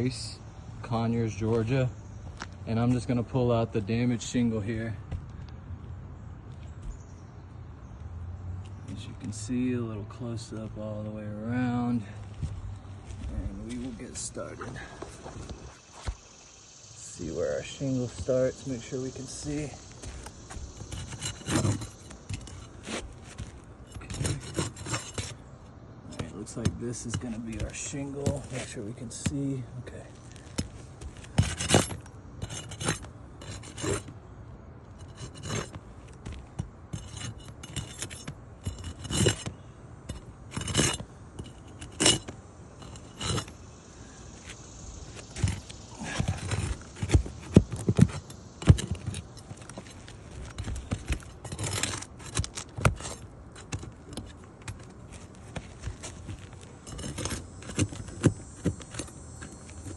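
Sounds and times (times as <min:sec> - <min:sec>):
shingle scraping and rubbing: 0:00.0 - 0:05.5, 0:08.7 - 0:16.4, 0:17.0 - 0:59.9.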